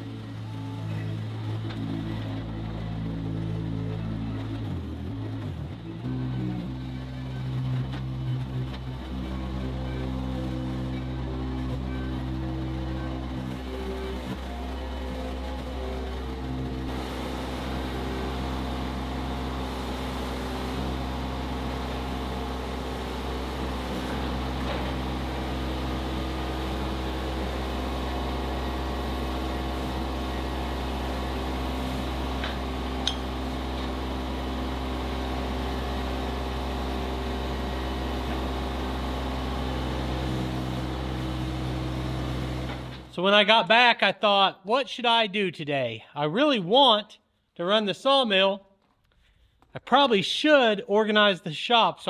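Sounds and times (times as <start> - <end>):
loader engine running: 0.0 - 43.9.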